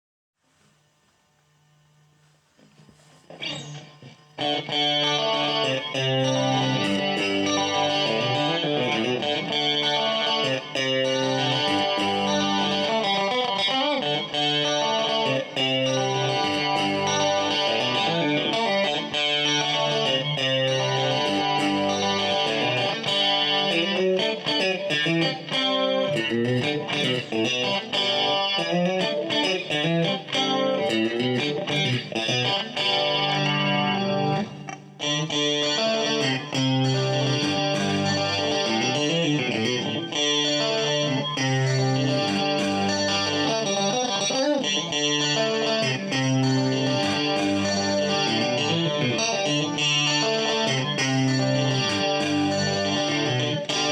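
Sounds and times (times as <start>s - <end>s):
clean electric guitar playing: 3.0s - 53.9s.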